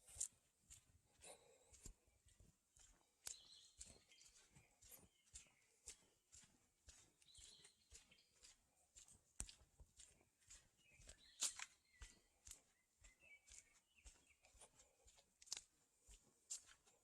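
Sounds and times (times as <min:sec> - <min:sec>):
barefoot footsteps on dirt: 0:00.0 - 0:17.0.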